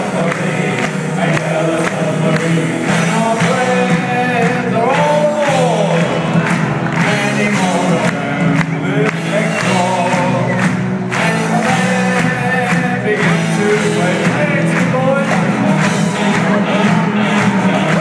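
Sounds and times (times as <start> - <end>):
crowd noise: 0.0 - 18.0
live rock band playing: 0.0 - 18.0
person singing: 0.0 - 18.0.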